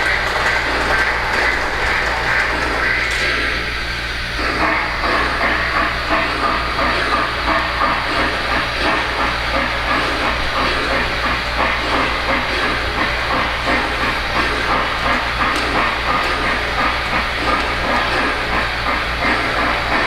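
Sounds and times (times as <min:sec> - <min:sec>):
model steam locomotive chuffing: 0:00.0 - 0:20.0.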